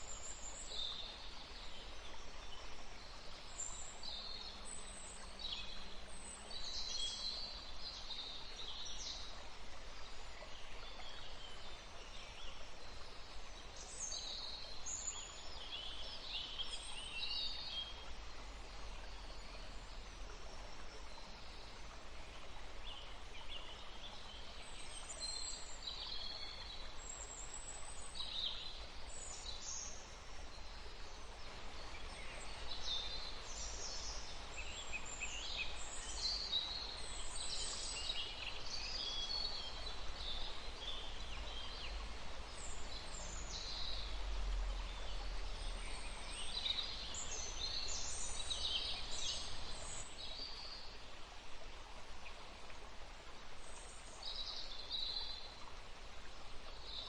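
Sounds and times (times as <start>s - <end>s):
outdoor background hiss: 0.0s - 57.0s
songbirds chirping: 0.0s - 57.0s.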